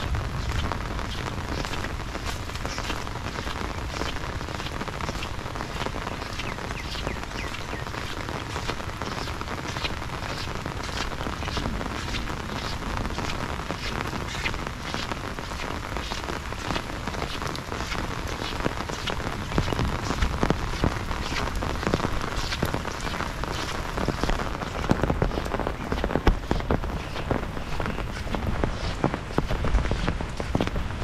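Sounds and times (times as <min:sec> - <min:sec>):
heavy rain falling: 0:00.0 - 0:31.0
sharp raindrop hits: 0:00.0 - 0:31.0.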